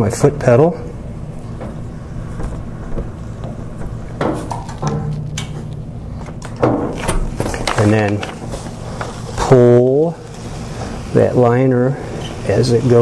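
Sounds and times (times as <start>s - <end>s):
laminator electric drive hum: 0.0s - 13.0s.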